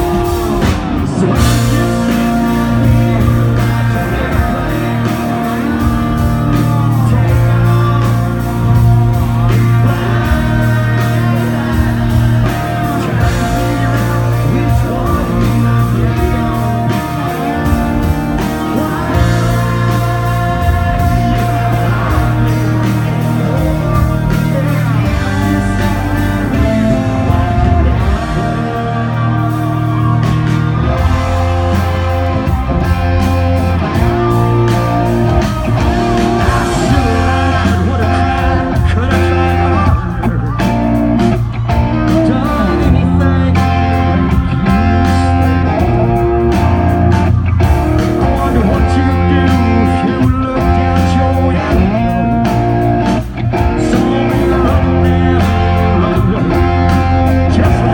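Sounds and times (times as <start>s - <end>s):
live country band: 0.0s - 57.9s
man singing lead vocal: 0.0s - 57.9s.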